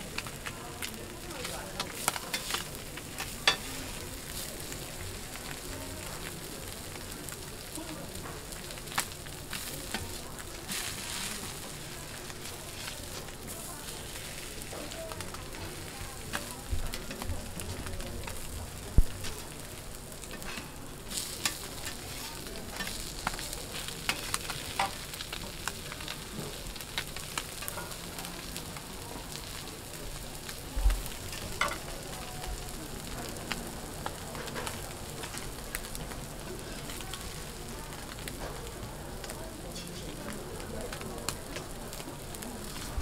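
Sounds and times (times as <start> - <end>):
fish sizzling on a griddle: 0.0 - 43.0.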